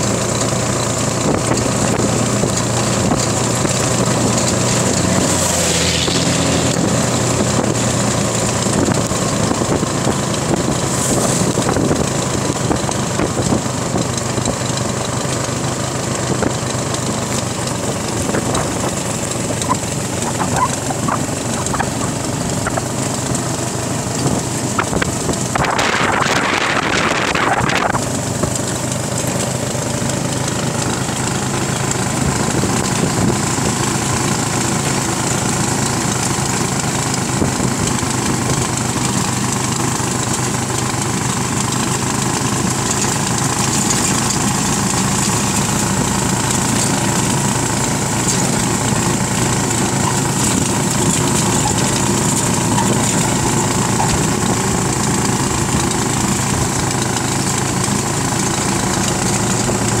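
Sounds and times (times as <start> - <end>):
motorcycle engine cruising: 0.0 - 60.0
wind and road noise: 0.0 - 60.0.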